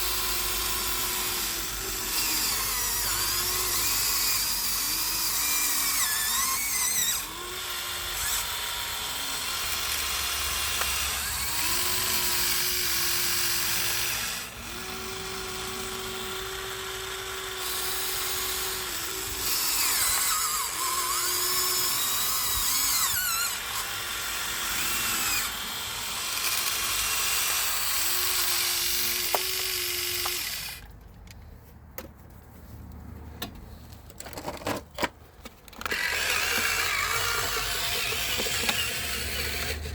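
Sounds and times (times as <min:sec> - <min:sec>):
small electric motors whining: 0:00.0 - 0:30.9, 0:35.6 - 0:39.9.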